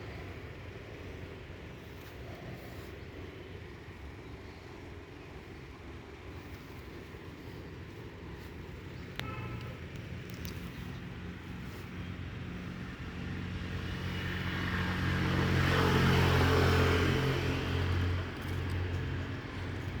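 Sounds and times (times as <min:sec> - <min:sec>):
engine running low hum: 0:00.0 - 0:20.0.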